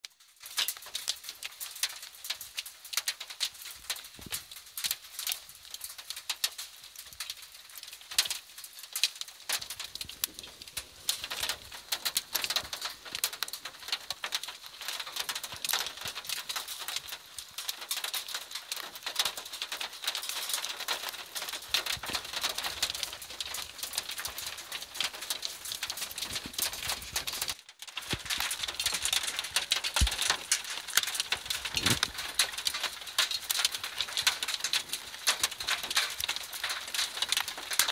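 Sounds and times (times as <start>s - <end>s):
hail falling: 0.1s - 37.9s.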